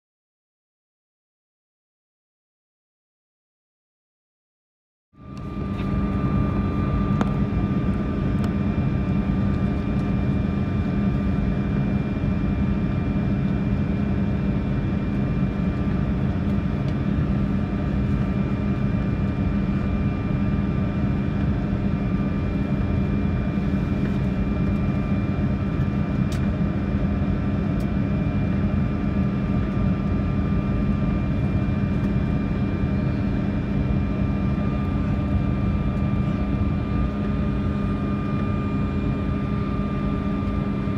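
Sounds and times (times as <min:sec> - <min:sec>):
jet cabin drone: 0:05.2 - 0:40.9.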